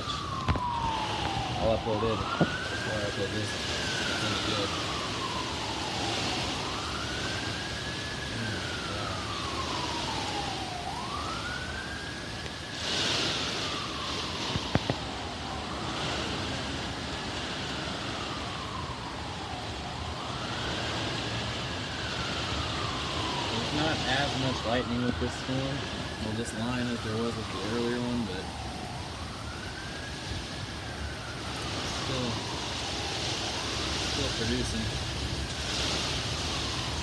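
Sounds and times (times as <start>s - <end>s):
emergency siren wailing: 0.0s - 37.0s.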